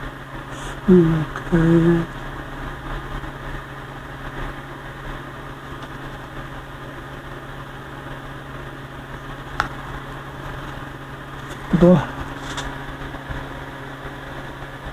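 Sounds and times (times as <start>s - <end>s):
electronic hum with hiss: 0.0s - 14.9s.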